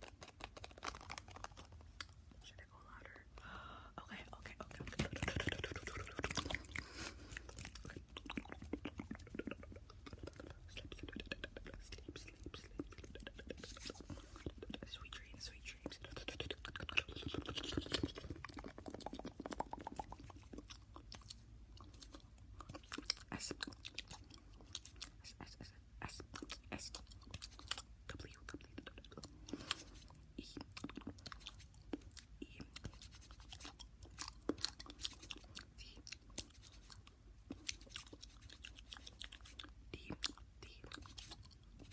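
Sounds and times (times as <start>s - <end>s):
tongue clicks and lip smacks: 0.0s - 2.2s, 4.5s - 41.9s.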